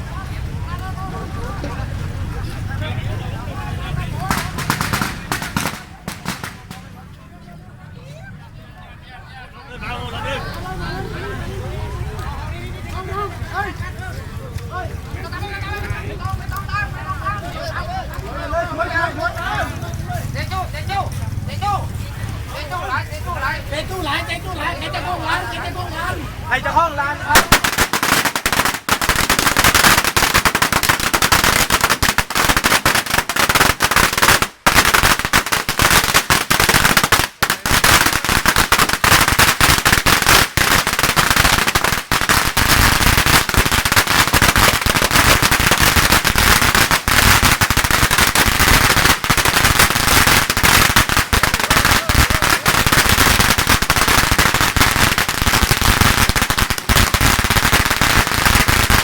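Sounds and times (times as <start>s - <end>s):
firecrackers crackling: 0.0s - 7.8s, 9.8s - 59.0s.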